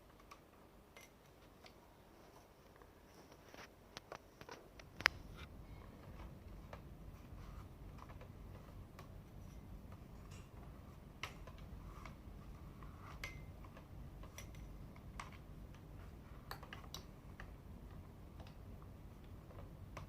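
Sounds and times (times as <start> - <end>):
light clicks and taps of parts: 0.0 - 20.0.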